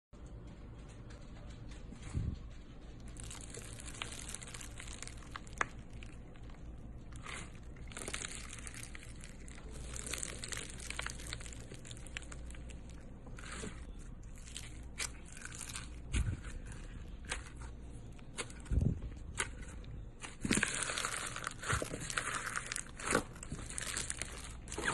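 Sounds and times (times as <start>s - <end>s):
slime crackling and crunching: 3.0s - 24.9s.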